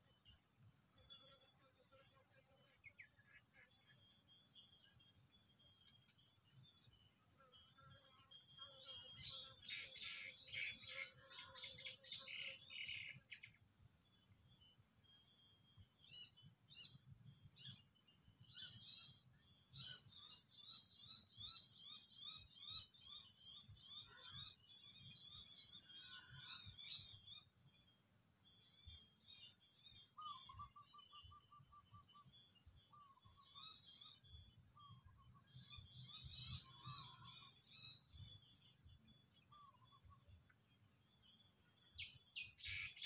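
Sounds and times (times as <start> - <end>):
faint birdsong chirping: 0.0 - 43.0.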